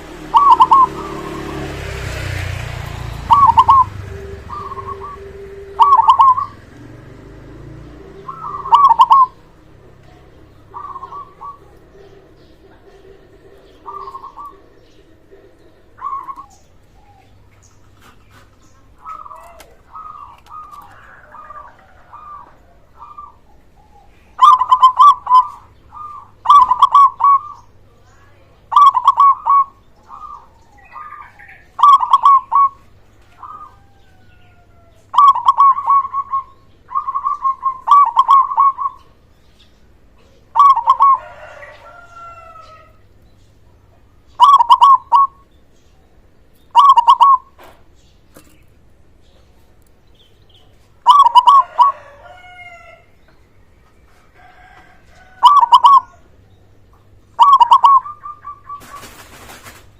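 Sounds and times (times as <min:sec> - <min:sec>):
dove cooing: 0:00.0 - 0:27.8, 0:28.7 - 0:39.3, 0:40.1 - 0:43.1, 0:43.9 - 0:45.5, 0:46.7 - 0:47.8, 0:51.0 - 0:53.1, 0:54.1 - 0:56.4, 0:57.3 - 0:59.9.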